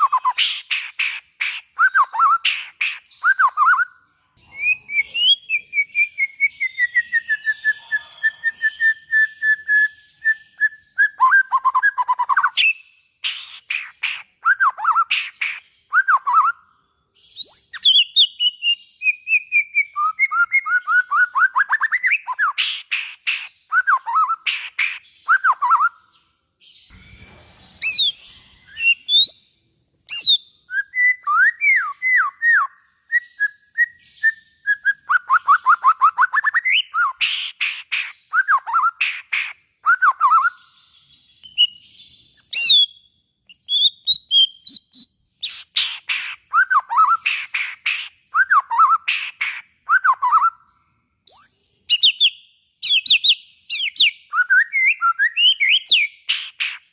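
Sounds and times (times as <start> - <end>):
songbird singing varied phrases: 0.0 - 27.1, 27.8 - 56.9.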